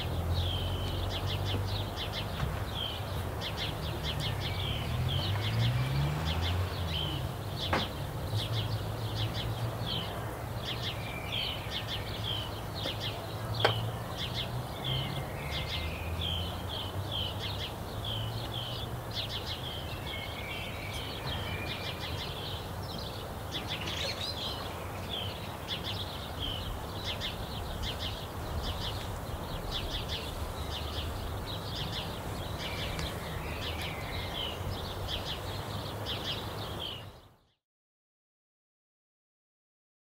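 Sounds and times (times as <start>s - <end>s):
songbirds chirping: 0.0s - 37.6s.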